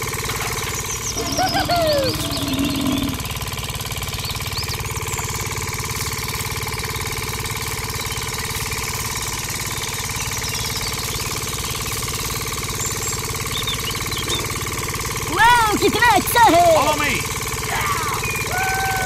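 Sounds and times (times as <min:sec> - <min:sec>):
small motor pulsing hum: 0:00.0 - 0:19.0.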